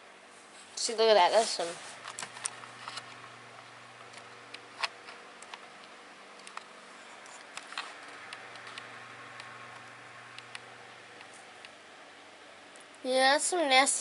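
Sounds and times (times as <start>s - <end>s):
machine humming low: 0.0s - 13.1s.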